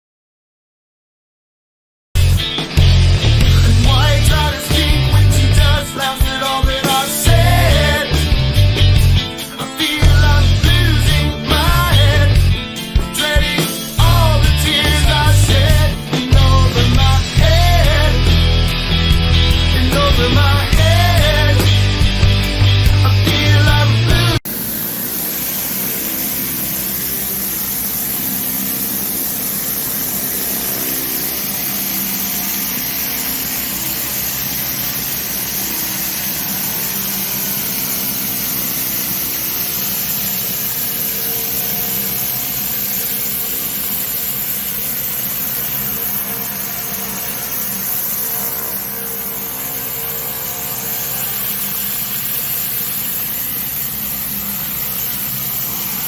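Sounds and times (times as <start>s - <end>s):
pressure washer engine drone: 2.2s - 56.0s
water jet hissing: 3.5s - 18.3s, 24.4s - 56.0s.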